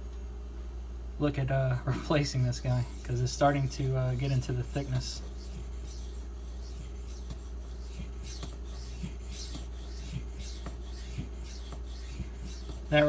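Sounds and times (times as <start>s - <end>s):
low electrical hum: 0.0s - 13.0s
knife scraping on whetstone: 2.1s - 13.0s.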